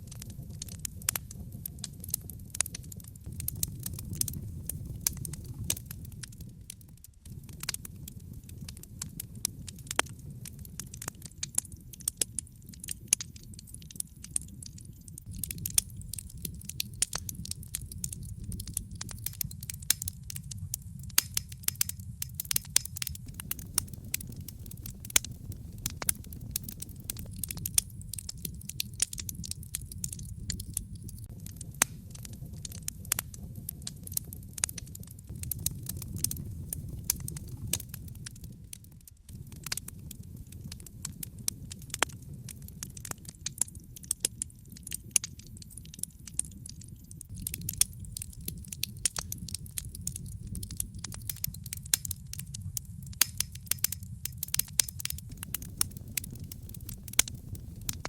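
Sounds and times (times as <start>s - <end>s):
low rush of burning: 0.0s - 13.5s, 15.2s - 43.2s, 47.3s - 58.0s
wood fire crackling and popping: 0.0s - 58.0s.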